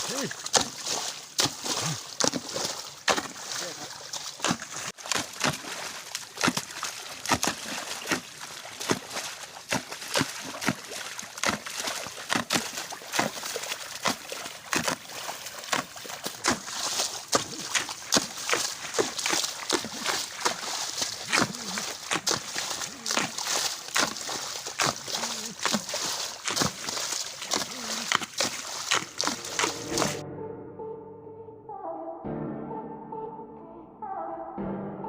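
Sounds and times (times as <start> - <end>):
digging tool chopping wet soil: 0.0 - 30.2.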